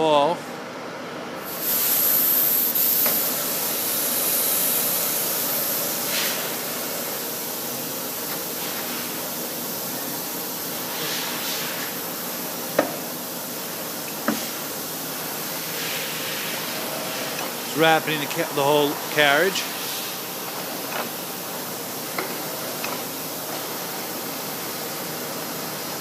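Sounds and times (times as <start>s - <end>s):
lathe hissing machine noise: 1.4s - 26.0s.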